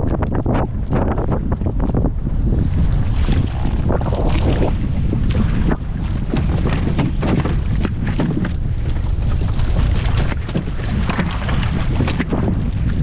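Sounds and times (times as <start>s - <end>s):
boat engine rumble: 0.0s - 13.0s
waves: 0.0s - 13.0s
wind buffeting microphone: 0.0s - 13.0s.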